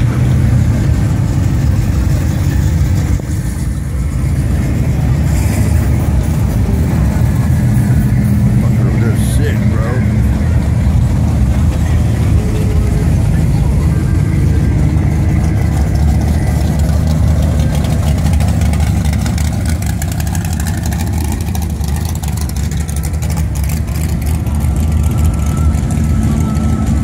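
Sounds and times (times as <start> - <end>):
car exhaust rumble at idle: 0.0 - 27.0.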